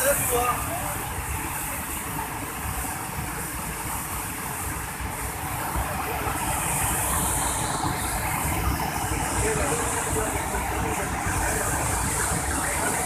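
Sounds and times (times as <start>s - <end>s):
waterfall rushing over ledge: 0.0s - 13.0s.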